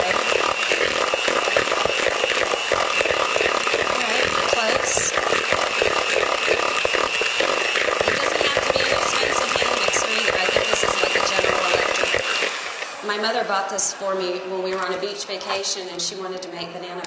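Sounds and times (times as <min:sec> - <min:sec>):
electric hand mixer whining: 0:00.0 - 0:16.9.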